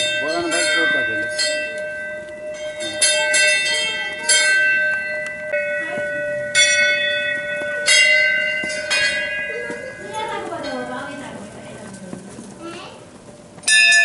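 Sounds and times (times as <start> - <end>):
metal bells ringing: 0.0 - 12.0, 13.6 - 14.0.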